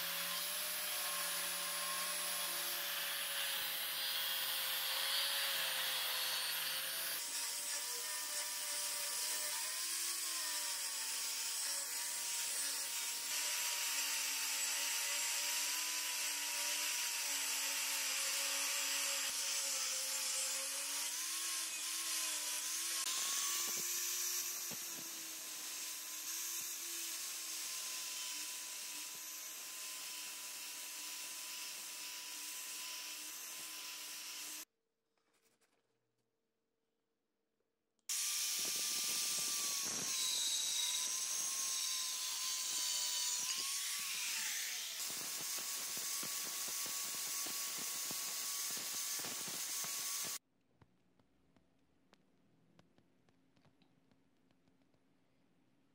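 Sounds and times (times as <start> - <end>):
angle grinder sanding wood: 0.0 - 34.6, 38.1 - 50.4.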